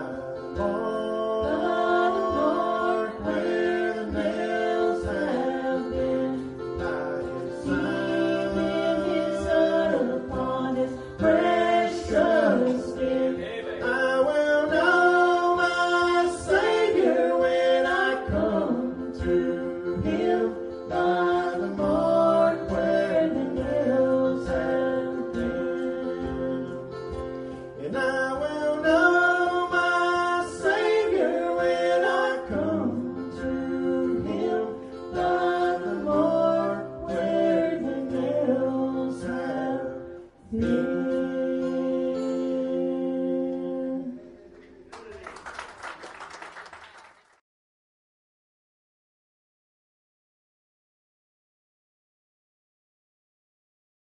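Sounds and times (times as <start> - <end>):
gospel group singing in harmony: 0.0 - 44.8
instrumental accompaniment: 0.0 - 45.6.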